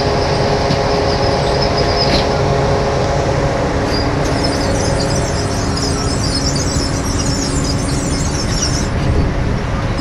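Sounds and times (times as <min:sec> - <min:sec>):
loud mechanical drone of machinery: 0:00.0 - 0:10.0.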